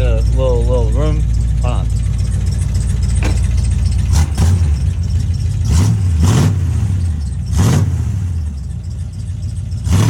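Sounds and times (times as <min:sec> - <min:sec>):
truck engine idling and revving: 0:00.0 - 0:10.0.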